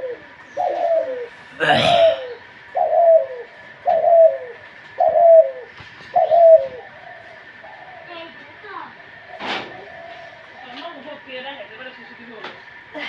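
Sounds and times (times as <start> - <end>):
dove cooing: 0.0 - 10.8.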